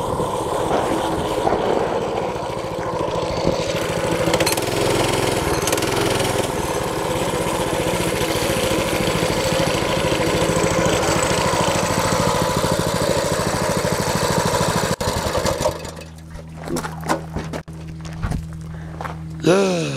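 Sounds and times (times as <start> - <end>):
small engine running: 0.0 - 19.9.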